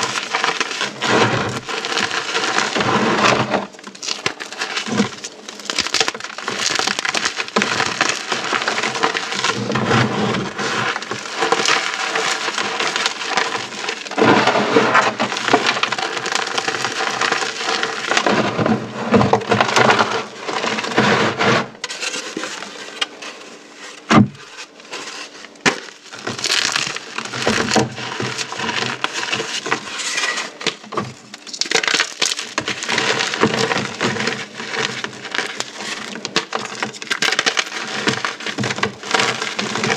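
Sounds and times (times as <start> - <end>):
crushing crackling and crunching: 0.0 - 39.9.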